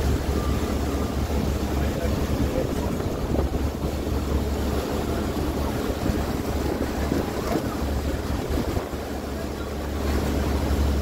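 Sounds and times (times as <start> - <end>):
wind on microphone: 0.0 - 9.3
boat engine drone: 0.0 - 11.0.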